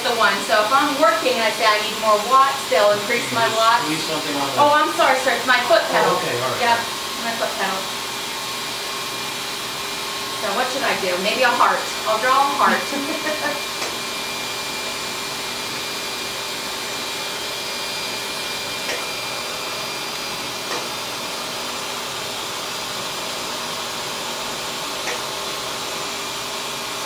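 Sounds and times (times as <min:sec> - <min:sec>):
smoke evacuator whirring and hissing: 0:00.0 - 0:27.0.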